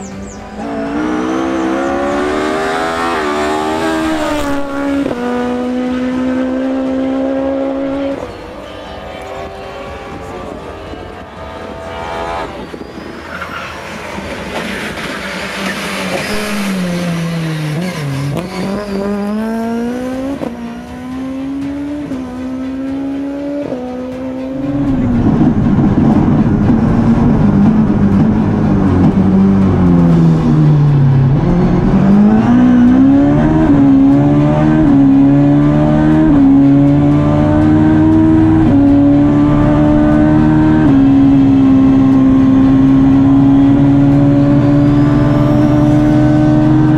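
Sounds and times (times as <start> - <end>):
rally car engine revving hard: 0.5 - 8.2, 14.0 - 46.9.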